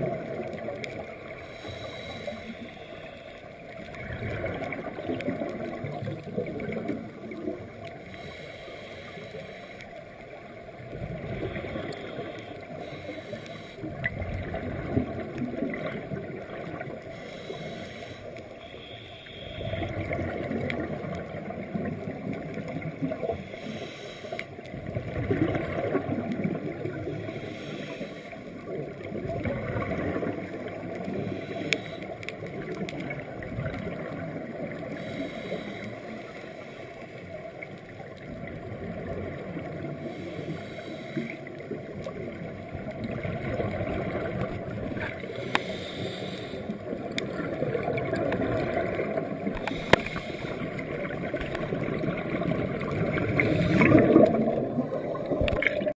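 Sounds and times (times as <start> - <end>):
underwater bubbles gurgling: 0.0 - 55.9.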